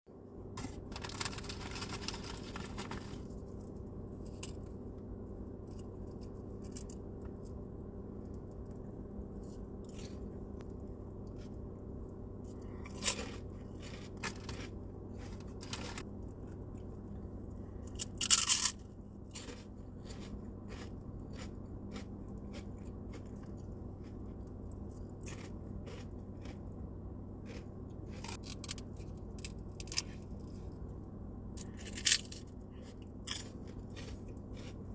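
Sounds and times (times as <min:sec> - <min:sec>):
steady low hum: 0:00.1 - 0:34.9
crunching and chewing: 0:00.6 - 0:34.9.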